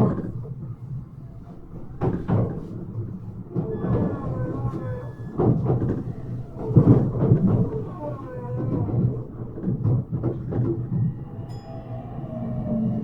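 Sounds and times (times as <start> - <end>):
train rumble with wheel knocks: 0.0 - 13.0.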